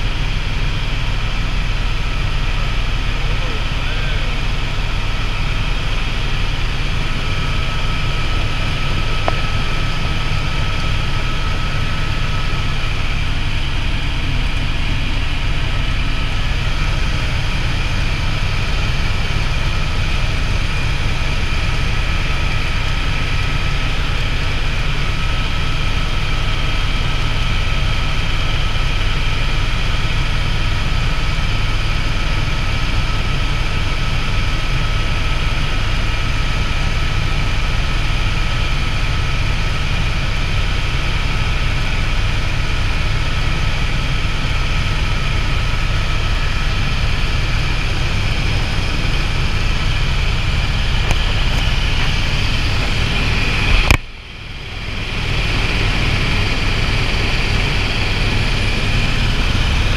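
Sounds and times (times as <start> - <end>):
high whine: 0.0 - 29.7, 40.3 - 59.9
helicopter rotor and engine noise: 0.0 - 59.9.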